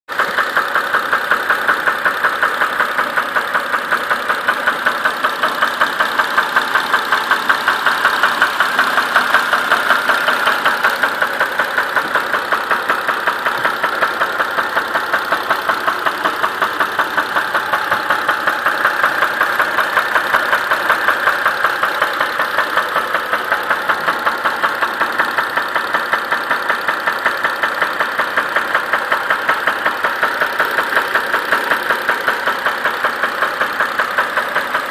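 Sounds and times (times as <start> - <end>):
car engine idling: 0.1 - 34.9
rapid engine knock: 0.1 - 34.9.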